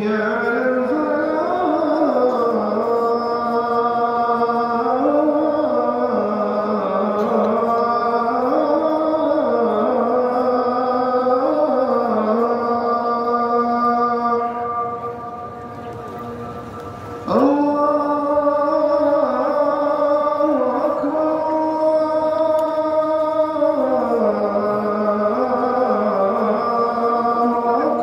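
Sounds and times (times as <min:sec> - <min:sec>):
call to prayer over loudspeakers: 0:00.0 - 0:28.0.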